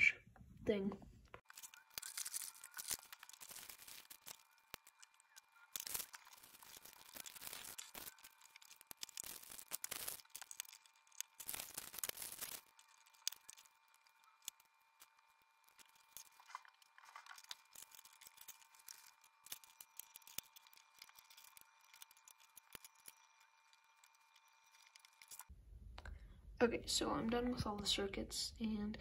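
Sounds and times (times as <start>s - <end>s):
small parts and wires clattering: 1.3s - 25.5s.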